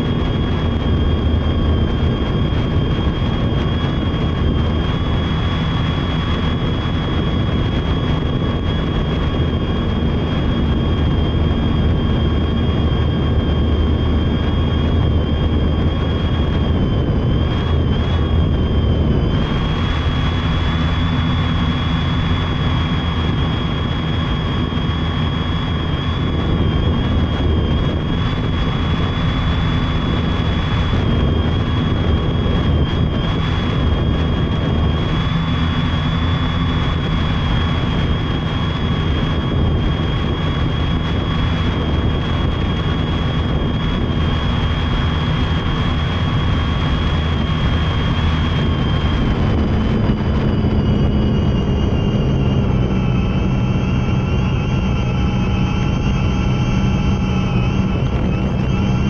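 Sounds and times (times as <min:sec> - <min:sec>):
drone motors and propellers whining: 0:00.0 - 0:59.0.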